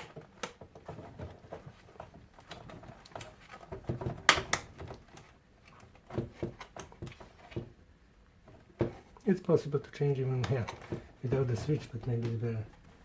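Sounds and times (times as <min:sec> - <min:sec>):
light clicks and knocks: 0:00.0 - 0:07.8, 0:10.2 - 0:13.0.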